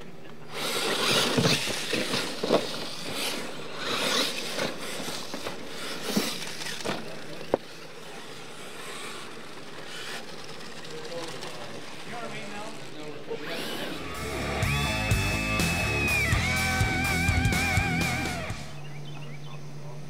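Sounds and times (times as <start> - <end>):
tyres churning loose dirt: 0.0 - 18.8.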